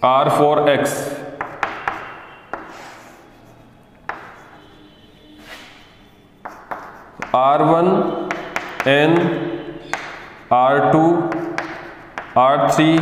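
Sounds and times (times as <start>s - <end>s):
chalk tapping on blackboard: 1.3s - 4.8s, 5.4s - 13.0s
chalk scratching on blackboard: 1.3s - 13.0s.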